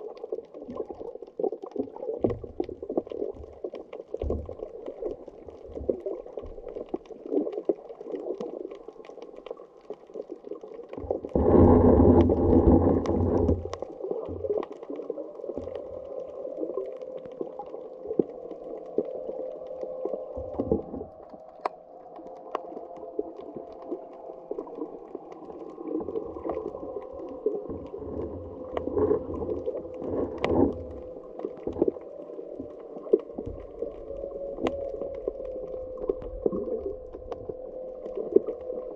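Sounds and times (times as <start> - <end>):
muffled underwater hum: 0.0 - 38.9
faint clicks: 0.1 - 38.9.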